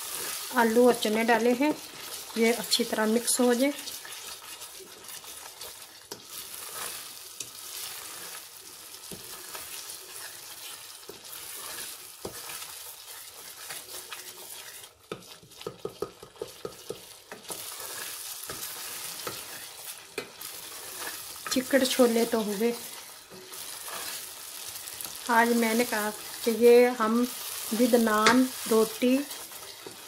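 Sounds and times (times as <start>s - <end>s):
food sizzling in a pot: 0.0s - 30.0s
spoon stirring and scraping: 0.0s - 30.0s.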